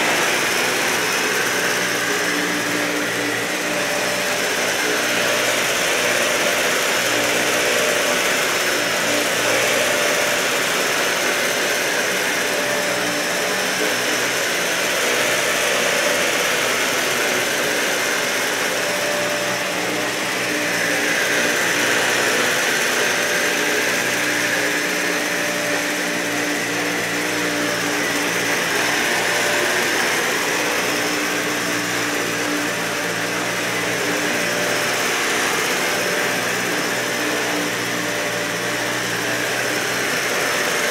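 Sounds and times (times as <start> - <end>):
vacuum cleaner on carpet: 0.0 - 40.9.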